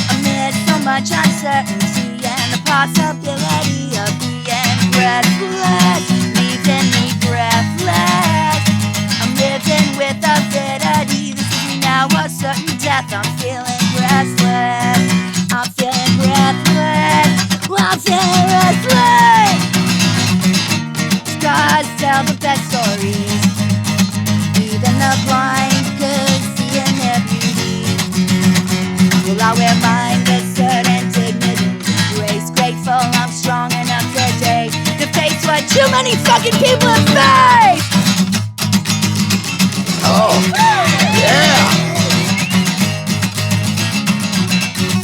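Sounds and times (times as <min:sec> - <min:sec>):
guitars strumming chords: 0:00.0 - 0:45.0.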